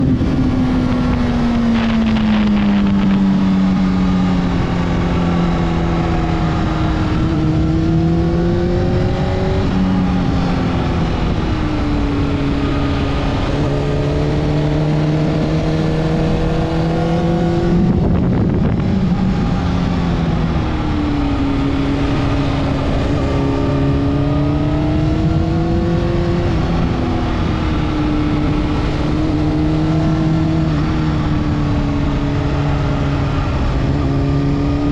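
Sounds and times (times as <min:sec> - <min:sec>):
motorcycle engine revving: 0:00.0 - 0:34.9
wind and road noise: 0:00.0 - 0:34.9.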